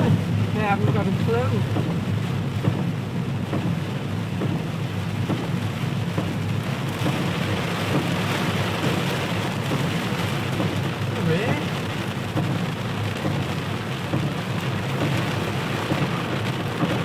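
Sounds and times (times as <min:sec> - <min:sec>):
low rumble of car moving: 0:00.0 - 0:17.0.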